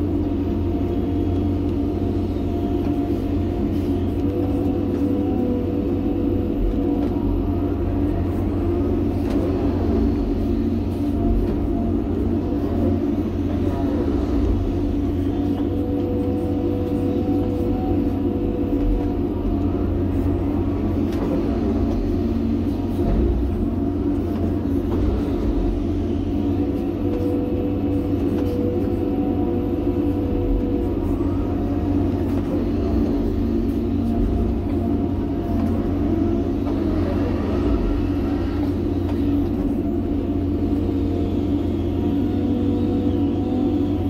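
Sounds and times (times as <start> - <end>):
excavator diesel engine running: 0.0 - 44.0
steady whine: 0.0 - 44.0.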